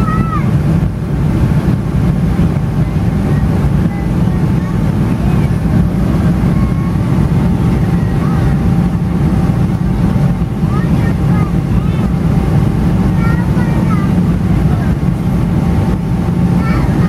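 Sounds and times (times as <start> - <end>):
airplane engine and airflow rumble: 0.0 - 17.0
faint steady tones: 0.0 - 17.0.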